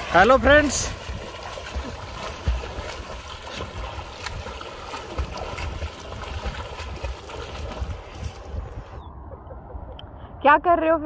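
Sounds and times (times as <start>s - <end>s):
water splashing around swimmers: 0.0s - 9.0s
wind buffeting microphone: 0.0s - 10.6s.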